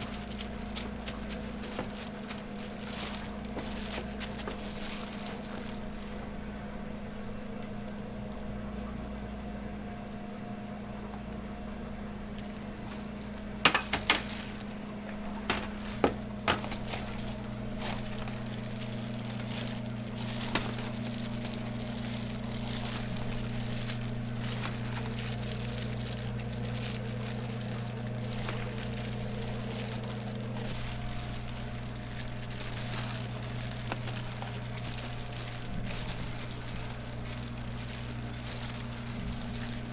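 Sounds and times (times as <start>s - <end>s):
kitchen equipment electric hum: 0.0s - 39.9s
lower electric hum: 0.0s - 39.9s.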